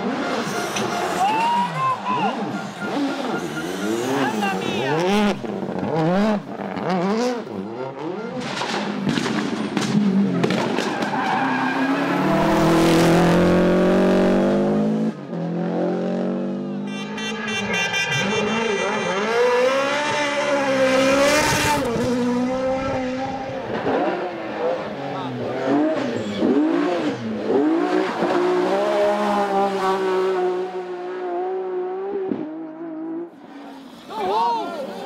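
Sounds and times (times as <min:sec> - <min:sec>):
rally car engines revving: 0:00.0 - 0:35.0.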